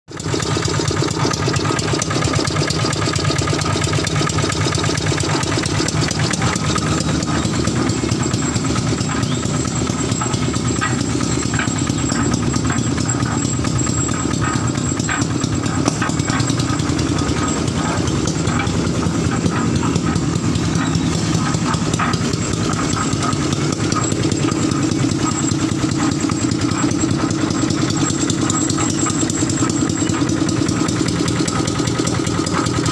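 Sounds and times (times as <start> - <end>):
diesel engine running steadily: 0.1 - 32.9.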